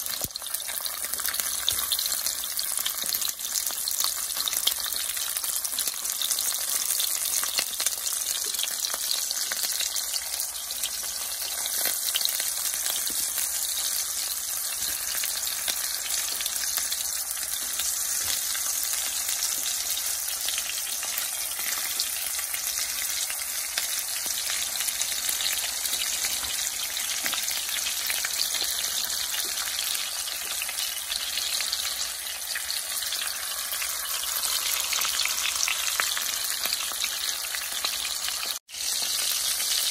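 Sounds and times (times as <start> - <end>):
sausages sizzling in oil: 0.0 - 39.9.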